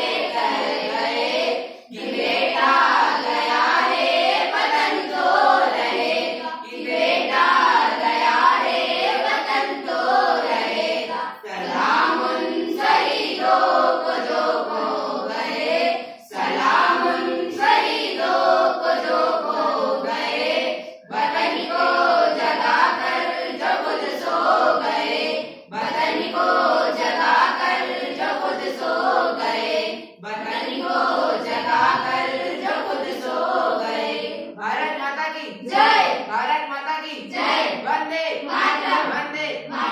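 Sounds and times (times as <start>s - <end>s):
children singing in unison: 0.0s - 34.9s, 35.5s - 36.5s, 37.3s - 39.9s.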